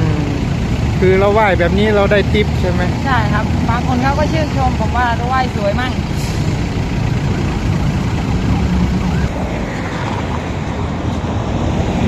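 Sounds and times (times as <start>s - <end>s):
car and truck engines rumbling: 0.0s - 12.0s.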